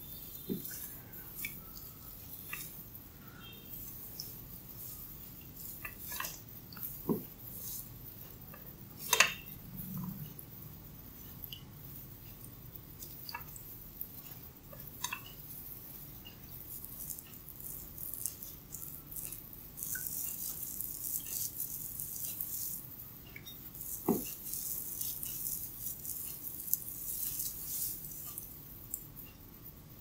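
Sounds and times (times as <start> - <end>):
hair crackling and rustling: 0.0 - 30.0.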